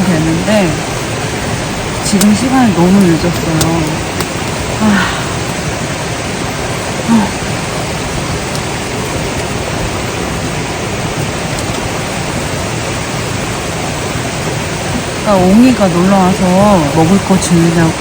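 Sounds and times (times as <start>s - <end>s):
stream rushing water: 0.0s - 18.0s.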